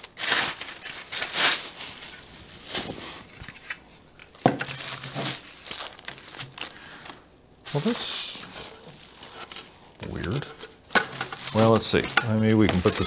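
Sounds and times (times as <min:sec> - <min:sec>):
plastic wrap crinkling: 0:00.0 - 0:13.0.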